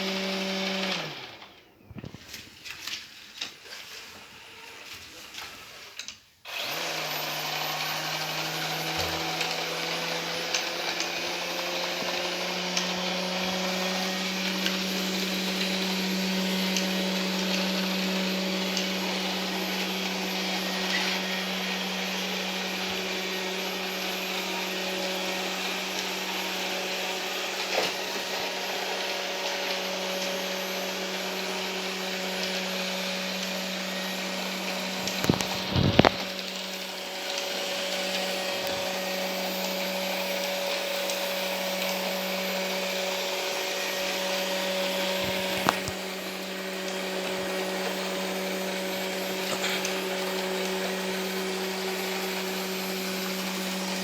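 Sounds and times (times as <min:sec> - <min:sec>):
robot vacuum motor hum: 0:06.5 - 0:54.0.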